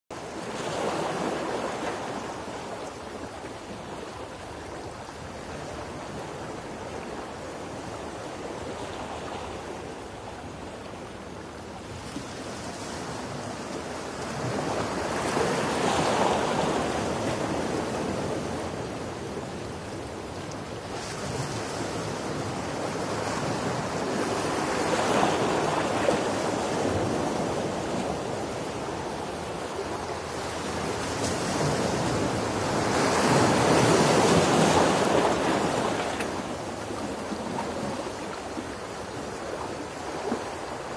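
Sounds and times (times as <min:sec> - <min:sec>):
ocean surf: 0:00.2 - 0:40.9.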